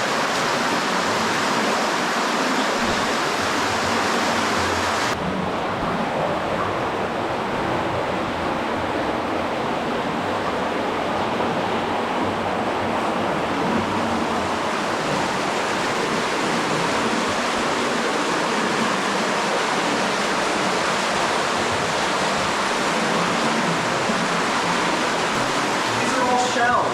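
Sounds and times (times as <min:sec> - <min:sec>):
stream flowing fast: 0:00.0 - 0:26.9.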